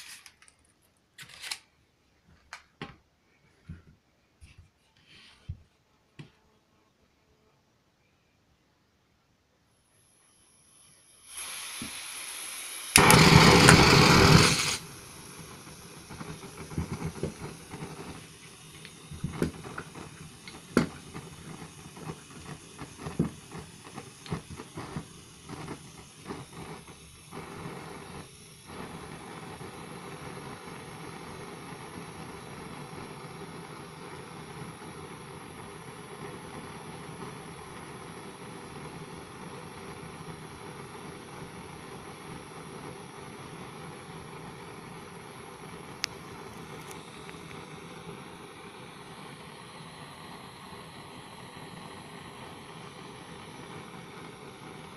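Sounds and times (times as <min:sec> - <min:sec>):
blowtorch flame hissing: 0:09.9 - 0:54.9
blowtorch lighting burst: 0:10.2 - 0:54.9.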